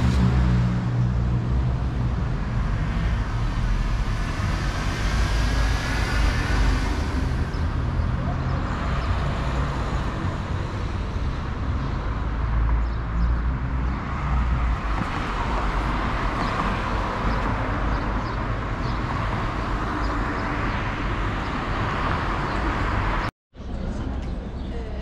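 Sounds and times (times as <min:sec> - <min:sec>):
cars passing with road noise: 0:00.0 - 0:25.0.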